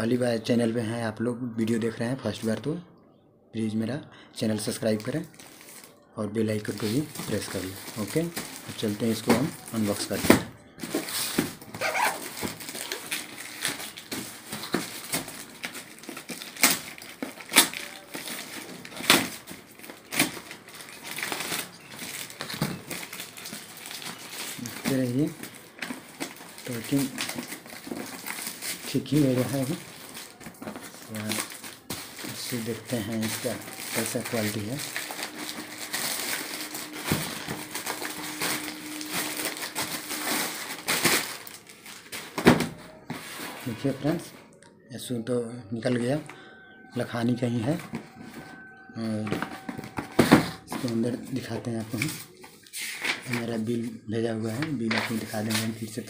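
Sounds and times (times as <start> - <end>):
plastic bag rustling and crinkling: 4.6 - 44.4, 45.9 - 56.0.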